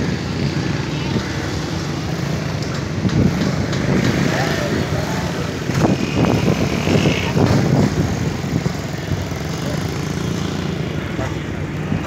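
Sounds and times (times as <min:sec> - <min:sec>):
small engine running: 0:00.2 - 0:11.5.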